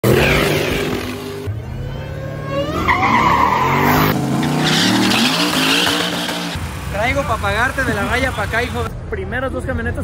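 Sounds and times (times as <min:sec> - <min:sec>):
truck engines revving hard: 0:00.0 - 0:08.9.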